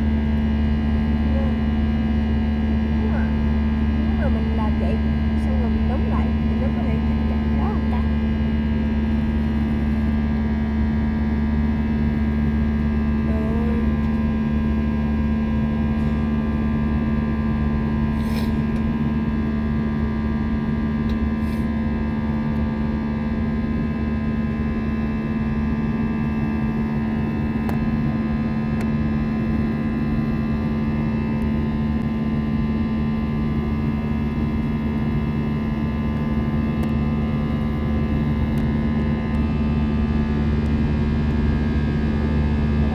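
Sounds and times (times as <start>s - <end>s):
airliner engines droning in cabin: 0.0s - 42.9s.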